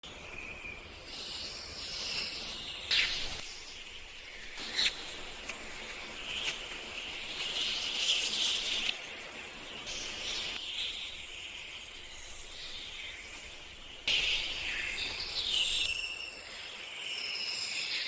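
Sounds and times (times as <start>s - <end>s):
insects chirring: 2.9s - 18.0s.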